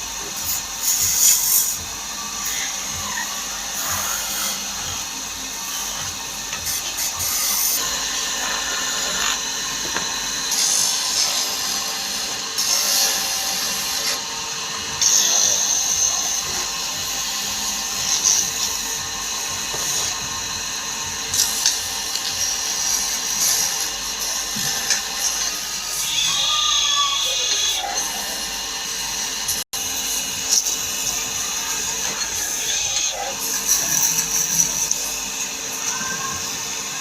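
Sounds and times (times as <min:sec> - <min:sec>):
power tool cutting wood: 0:00.0 - 0:37.0.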